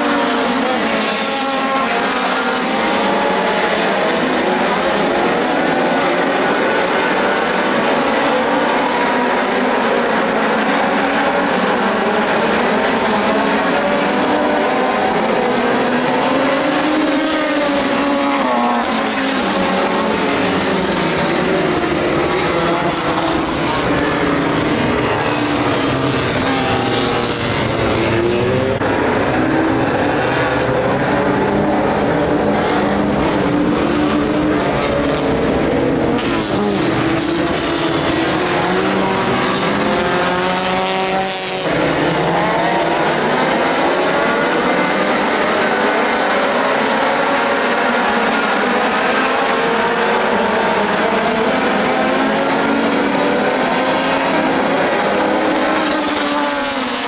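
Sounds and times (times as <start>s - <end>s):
stock car engines running: 0.0s - 57.0s.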